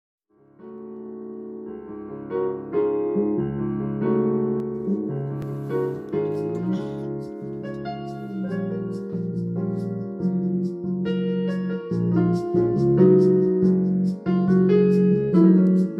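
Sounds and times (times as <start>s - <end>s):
slow piano music: 0.3s - 15.9s.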